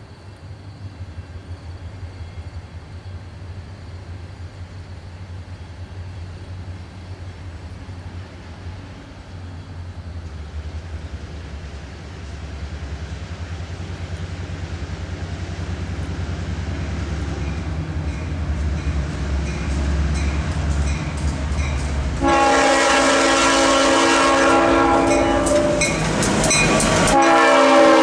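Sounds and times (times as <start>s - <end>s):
diesel locomotive engine drone: 0.0s - 28.0s
train rushing noise: 0.0s - 28.0s.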